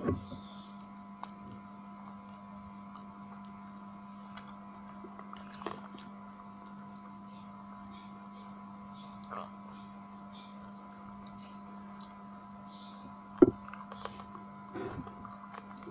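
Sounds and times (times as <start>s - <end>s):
electrical hum: 0.0s - 15.9s
faint chewing sounds: 0.4s - 9.4s, 10.4s - 15.9s.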